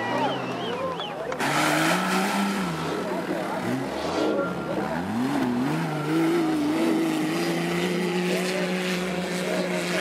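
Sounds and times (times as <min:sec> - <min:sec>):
engine at steady revs: 0:00.2 - 0:10.0.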